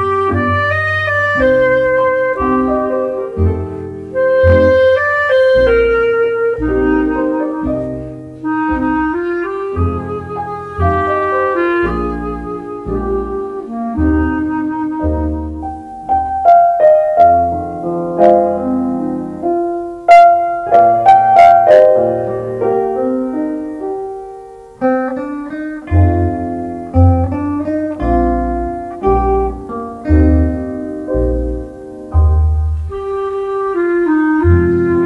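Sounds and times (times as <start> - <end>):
piano playing chords and runs: 0.0 - 35.0.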